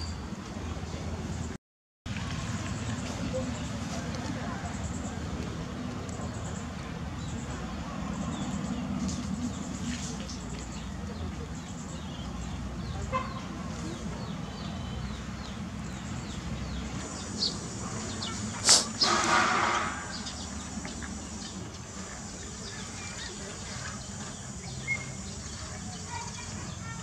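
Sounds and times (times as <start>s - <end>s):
birds chirping: 2.5s - 27.0s.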